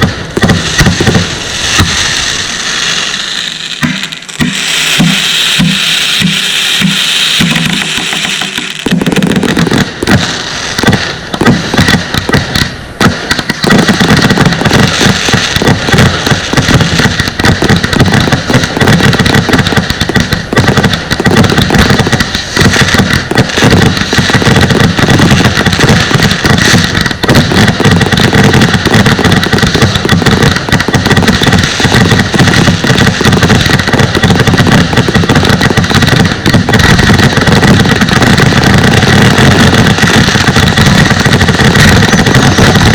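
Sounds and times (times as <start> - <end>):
fireworks bangs and crackle: 0.0 - 42.9.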